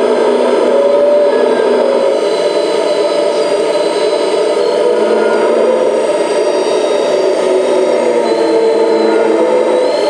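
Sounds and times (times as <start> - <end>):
hydraulic pump whine: 0.0 - 10.0.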